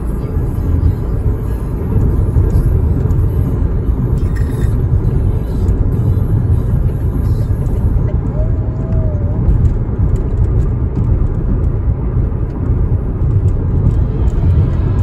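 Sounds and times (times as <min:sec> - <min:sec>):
car road rumble from inside cabin: 0:00.0 - 0:15.0
tyre and engine noise: 0:00.0 - 0:15.0.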